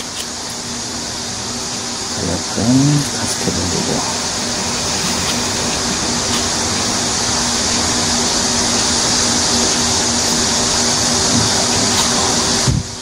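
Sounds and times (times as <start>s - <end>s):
machine low hum: 0.0s - 13.0s
machine whirring hiss: 0.0s - 13.0s.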